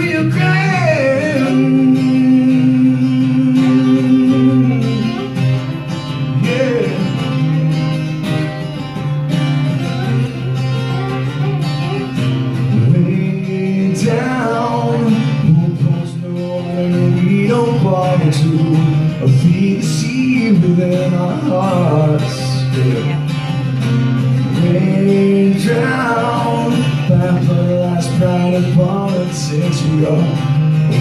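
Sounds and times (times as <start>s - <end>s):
person singing: 0.0s - 23.4s, 24.5s - 31.0s
acoustic guitar playing: 0.0s - 31.0s.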